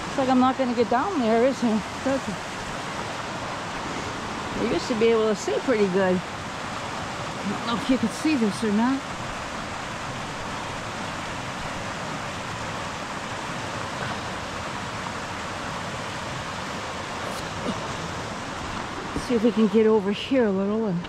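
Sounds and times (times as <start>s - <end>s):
water rushing over falls: 0.0s - 21.0s.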